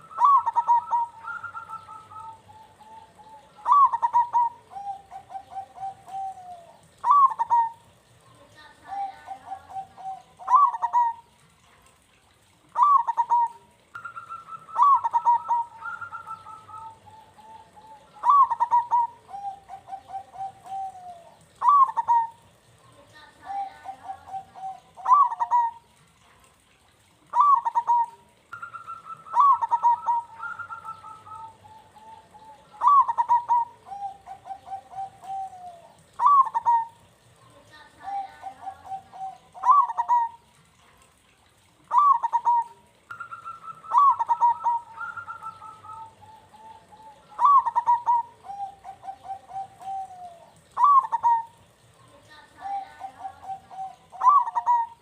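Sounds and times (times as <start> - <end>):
second higher dove coo: 0.0 - 7.9, 8.9 - 11.3, 12.7 - 25.8, 27.3 - 37.0, 38.0 - 40.6, 41.8 - 51.8, 52.6 - 55.0
dove cooing: 0.0 - 26.3, 27.1 - 55.0.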